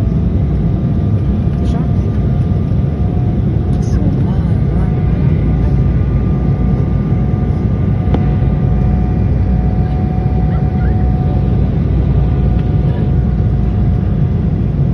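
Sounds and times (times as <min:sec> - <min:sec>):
jet engine and airflow rumble: 0:00.0 - 0:14.9.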